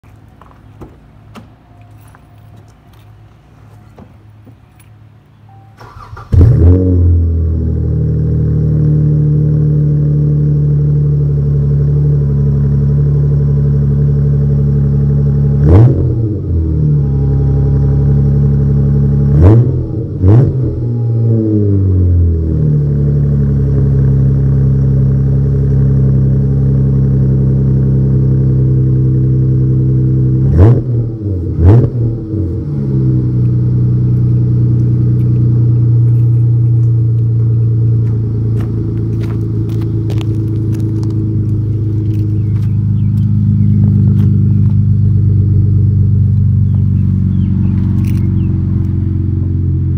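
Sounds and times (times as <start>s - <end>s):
car engine idling: 0.0s - 49.9s
engine revving: 5.8s - 49.9s.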